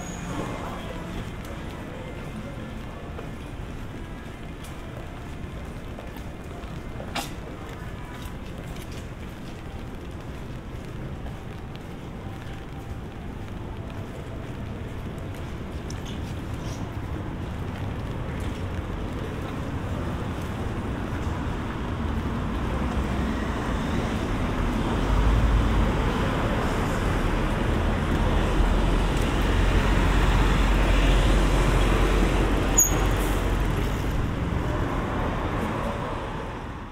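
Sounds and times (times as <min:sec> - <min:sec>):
heavy vehicle low rumble: 0:00.0 - 0:36.9
traffic on wet road: 0:00.0 - 0:36.9.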